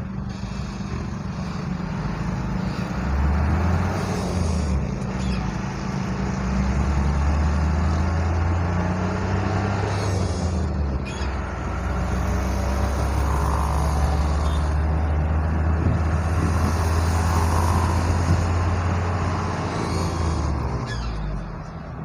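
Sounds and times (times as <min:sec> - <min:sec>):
road noise: 0:00.0 - 0:22.0
truck engine running: 0:00.0 - 0:22.0.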